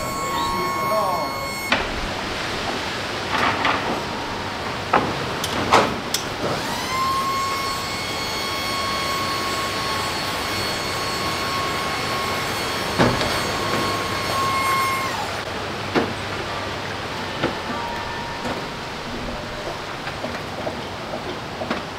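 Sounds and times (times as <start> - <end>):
liftgate electric motor whine: 0.0 - 20.2.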